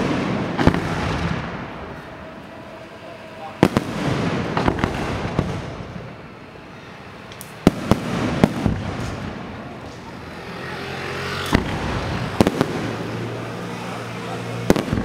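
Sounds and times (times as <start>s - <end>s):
continuous noisy rush: 0.0s - 15.0s
fireworks bangs: 0.0s - 15.0s.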